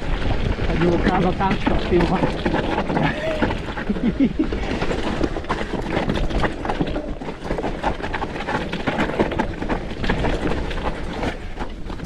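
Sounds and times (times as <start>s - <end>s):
mountain bike rattling over trail: 0.0s - 12.0s.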